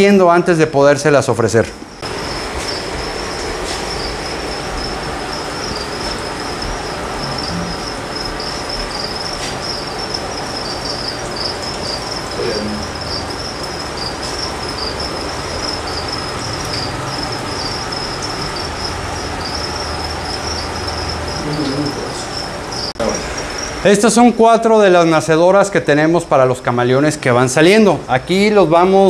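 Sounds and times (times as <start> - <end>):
background room noise: 0.0 - 29.0
crickets chirping: 0.0 - 29.0.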